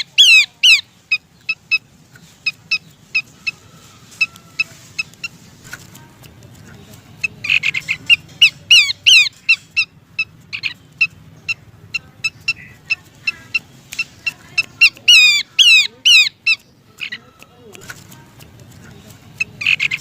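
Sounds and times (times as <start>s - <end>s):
bird calling with sharp chips: 0.0s - 6.4s, 7.2s - 20.0s.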